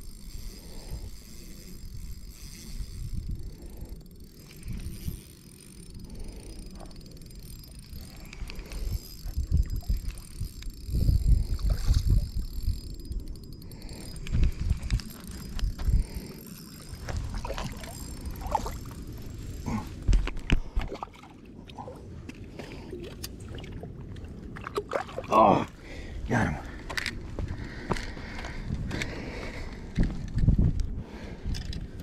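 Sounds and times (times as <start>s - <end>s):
wind buffeting microphone: 0.0s - 21.1s, 21.8s - 32.0s.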